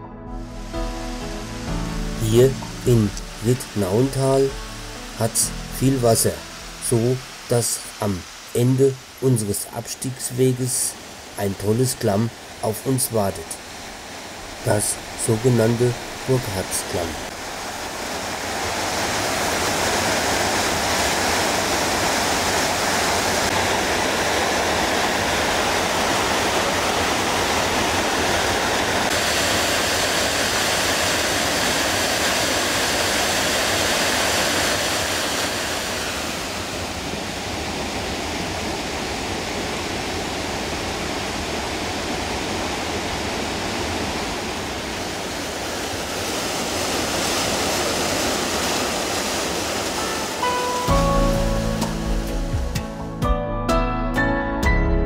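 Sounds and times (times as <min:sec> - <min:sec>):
mountain torrent rushing: 0:00.4 - 0:52.8.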